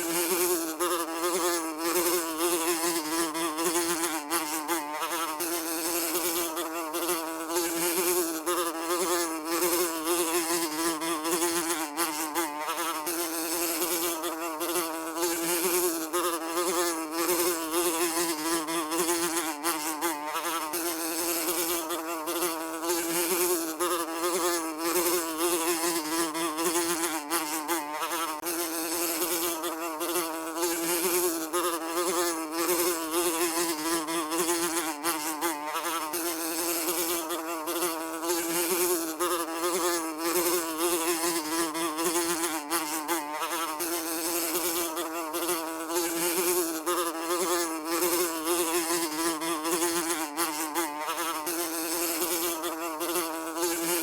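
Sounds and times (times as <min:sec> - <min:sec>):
housefly buzzing: 0:00.0 - 0:54.0.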